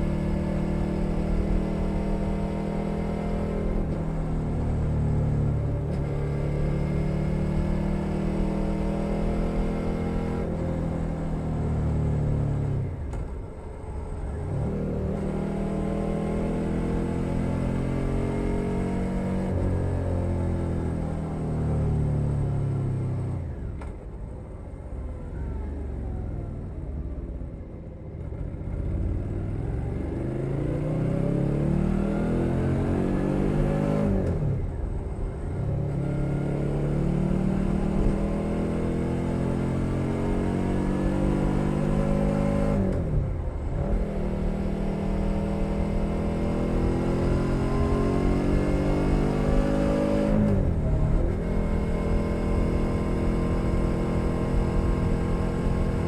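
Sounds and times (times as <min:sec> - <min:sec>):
motorcycle engine accelerating: 0:00.0 - 0:23.9, 0:25.1 - 0:56.0.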